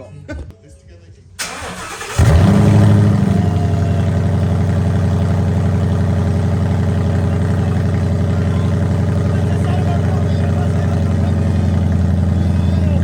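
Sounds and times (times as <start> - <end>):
loud car engine idling: 1.4 - 13.0.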